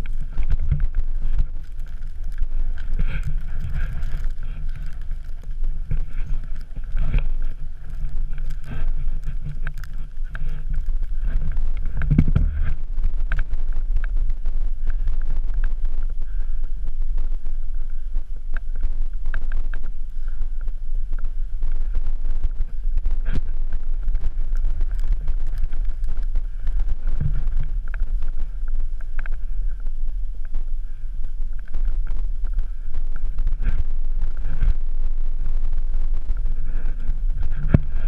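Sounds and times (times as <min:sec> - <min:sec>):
knocks and scrapes in snow and rock: 0:00.0 - 0:38.0
wind buffeting microphone: 0:00.0 - 0:38.0.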